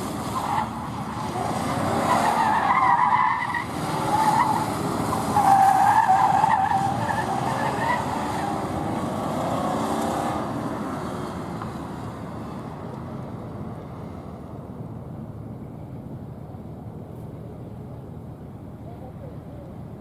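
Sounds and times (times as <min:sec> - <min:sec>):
car engine: 0:00.0 - 0:18.8.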